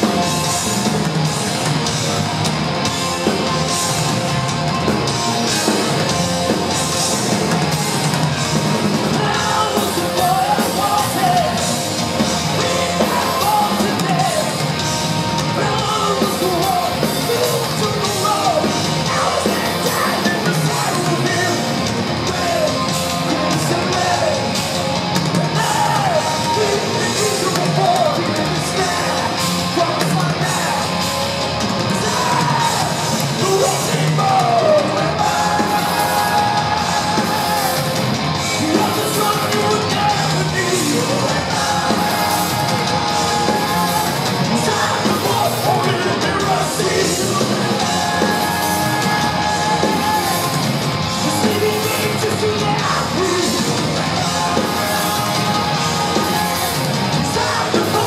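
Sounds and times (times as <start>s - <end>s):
live heavy metal band: 0.0s - 58.0s
steady drums: 0.0s - 58.0s.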